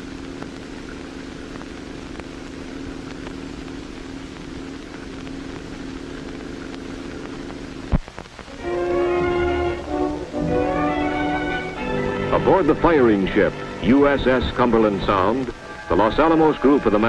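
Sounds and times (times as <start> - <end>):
film hiss: 0.0 - 17.0
small boat motor humming: 0.0 - 17.0.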